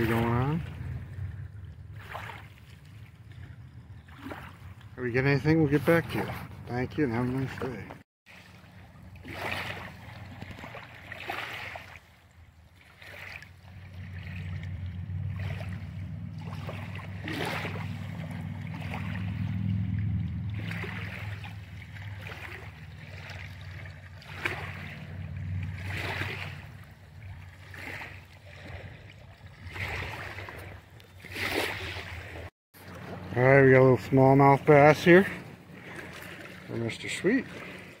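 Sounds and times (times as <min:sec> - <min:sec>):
low steady rumble: 0:00.0 - 0:07.9, 0:12.1 - 0:29.7, 0:32.1 - 0:37.3
small waves lapping: 0:00.0 - 0:38.0
water splashing: 0:00.0 - 0:38.0.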